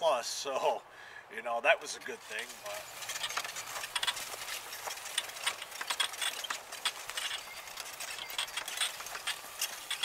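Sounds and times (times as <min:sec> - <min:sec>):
wheelchair rattling on rough trail: 0:01.9 - 0:10.0.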